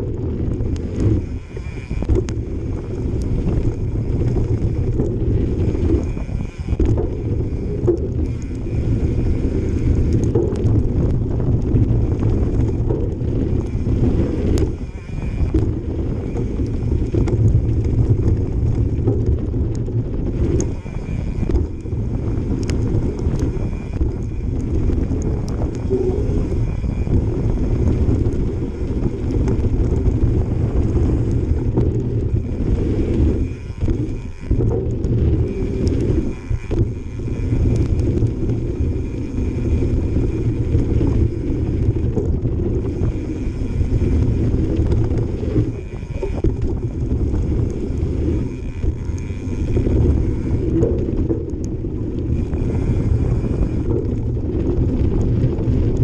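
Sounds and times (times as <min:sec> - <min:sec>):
bicycle freehub buzzing: 0:00.0 - 0:56.0
bike knocks and rattles: 0:00.0 - 0:56.0
tyre and wind rumble: 0:00.0 - 0:56.0.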